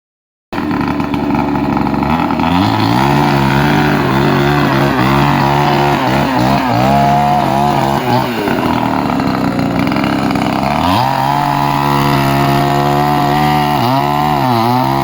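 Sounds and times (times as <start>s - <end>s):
chainsaw engine revving: 0.6s - 15.0s.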